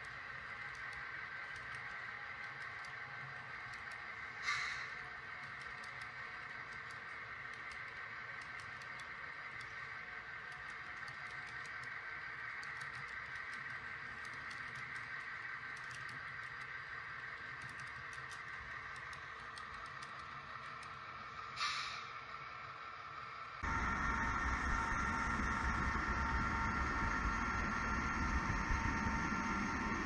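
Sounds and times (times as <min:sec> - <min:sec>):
model train wheels rolling: 0:00.0 - 0:30.0.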